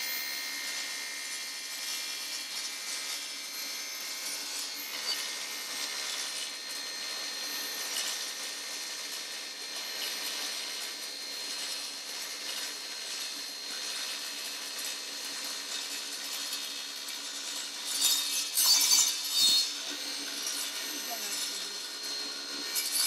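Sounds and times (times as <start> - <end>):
table saw cutting wood: 0.0 - 23.0.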